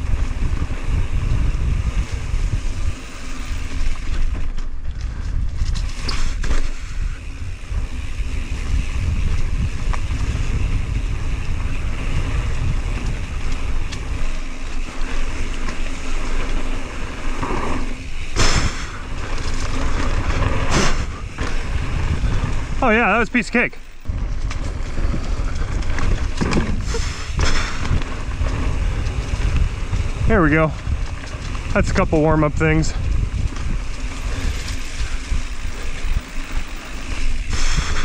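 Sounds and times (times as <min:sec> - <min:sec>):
bike knocks and rattles: 0:00.0 - 0:22.8, 0:24.0 - 0:32.0
bike tyres rolling on dirt: 0:00.0 - 0:38.0
wind buffeting microphone: 0:00.0 - 0:38.0.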